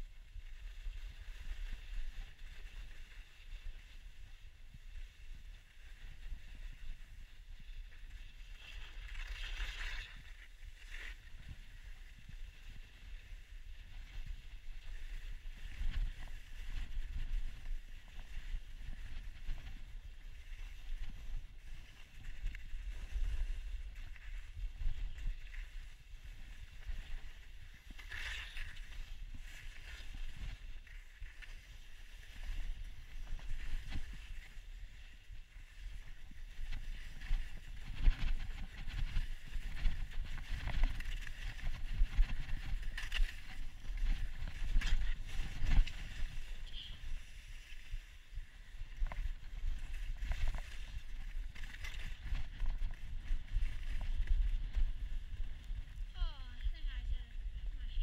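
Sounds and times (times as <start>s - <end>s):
wind rumbling on microphone: 0.0s - 58.0s
snowboard scraping on snow: 0.5s - 55.8s.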